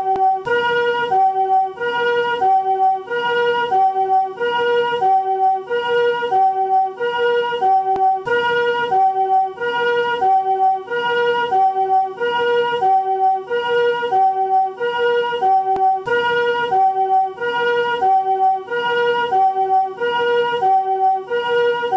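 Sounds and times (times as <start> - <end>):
two-tone ambulance siren: 0.0 - 21.9.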